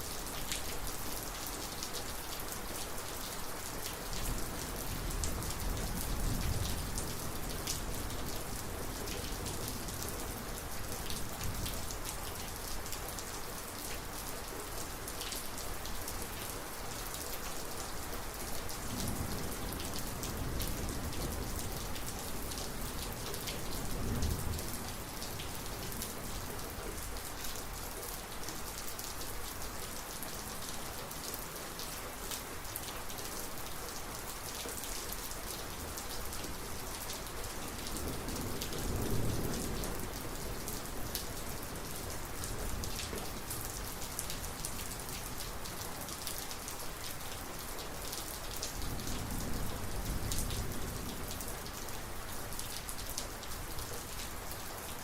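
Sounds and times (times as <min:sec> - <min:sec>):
heavy rain falling: 0:00.0 - 0:55.0
raindrops ticking on surfaces: 0:00.0 - 0:55.0.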